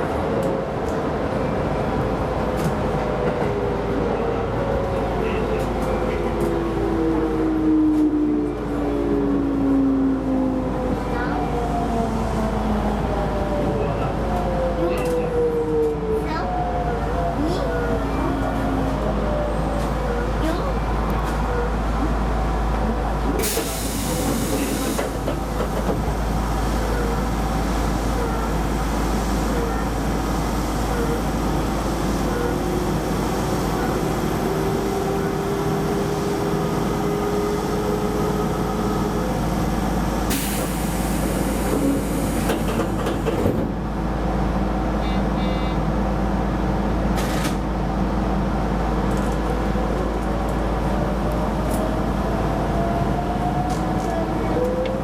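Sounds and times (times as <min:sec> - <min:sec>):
train wheels rumbling on rail: 0:00.0 - 0:08.7, 0:12.4 - 0:55.0.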